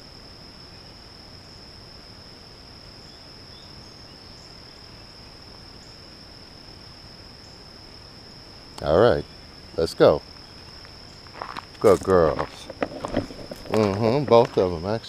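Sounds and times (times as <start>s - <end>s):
crickets trilling: 0.0s - 15.0s
faint outdoor hiss: 0.0s - 15.0s.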